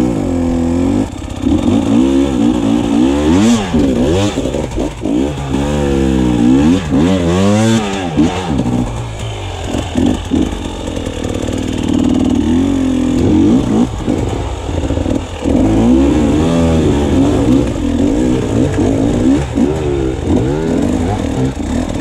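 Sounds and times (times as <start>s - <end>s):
clatter: 0.0s - 22.0s
motorcycle engine revving: 0.0s - 22.0s.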